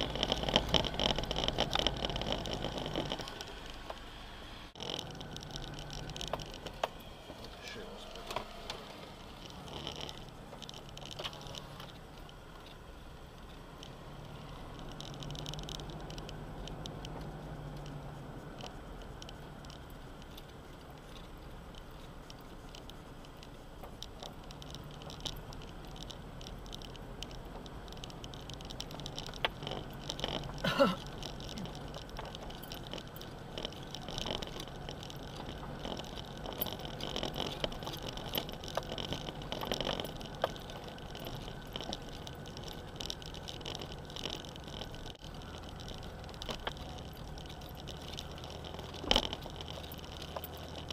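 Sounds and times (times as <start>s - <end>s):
gravel clatter: 0.0s - 50.9s
vehicle engine drone: 0.0s - 50.9s.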